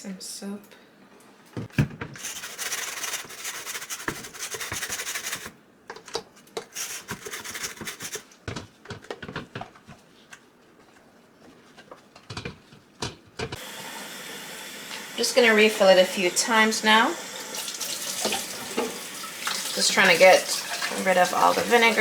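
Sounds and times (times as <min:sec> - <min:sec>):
scrubbing plastic with soap: 0:02.2 - 0:22.0.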